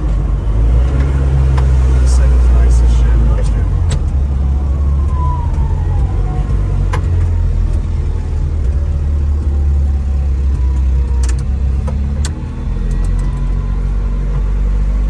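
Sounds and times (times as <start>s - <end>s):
small truck engine rumbling: 0.0s - 15.0s.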